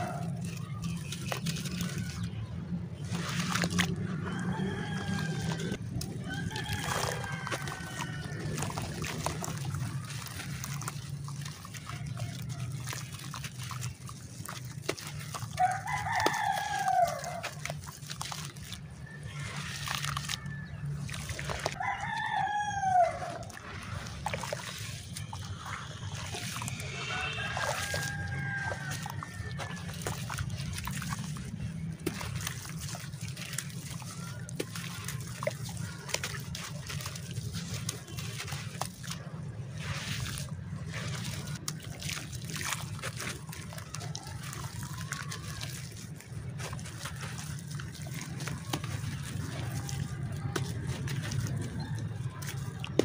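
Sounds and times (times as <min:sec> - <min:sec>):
hands kneading wet clay: 0:00.0 - 0:53.0
water sloshing in plastic basin: 0:00.0 - 0:53.0.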